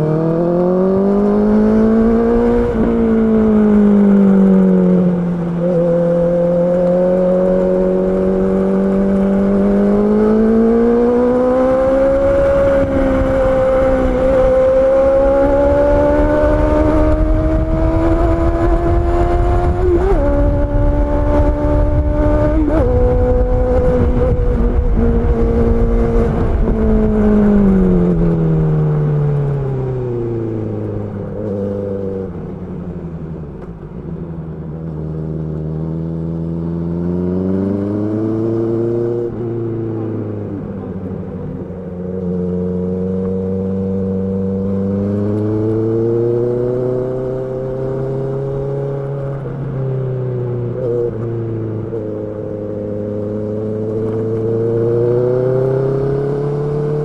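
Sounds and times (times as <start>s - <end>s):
low wind rumble: 0.0s - 57.0s
motorcycle engine accelerating: 0.0s - 57.0s.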